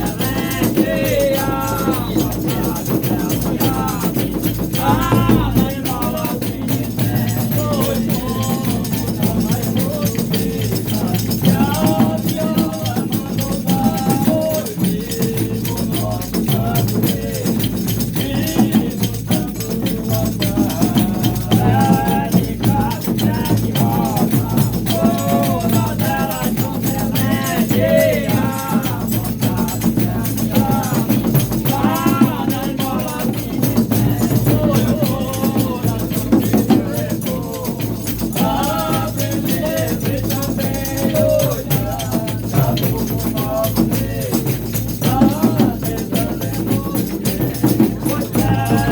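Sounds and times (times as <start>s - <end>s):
shaken percussion rattle: 0.0s - 48.9s
voices singing: 0.0s - 48.9s.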